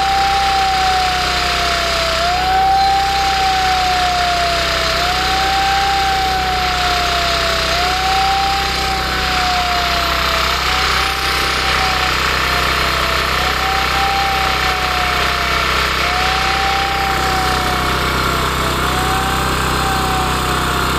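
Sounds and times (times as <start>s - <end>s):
loud steady noise: 0.0s - 20.9s
wailing siren tone: 0.0s - 20.9s.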